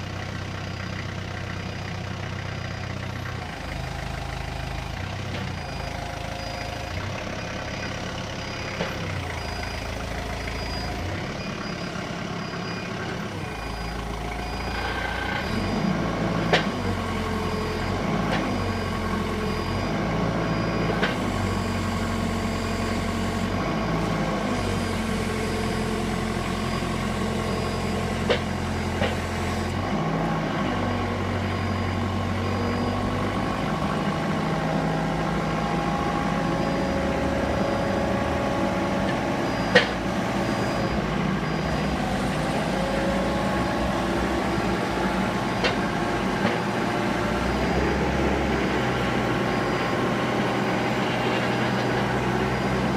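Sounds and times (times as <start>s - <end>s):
forklift diesel engine running: 0.0s - 52.9s.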